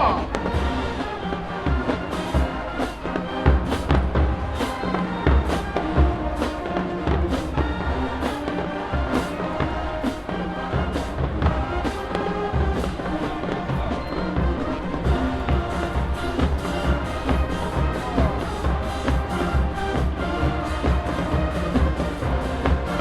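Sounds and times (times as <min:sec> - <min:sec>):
marching band brass: 0:00.0 - 0:23.0.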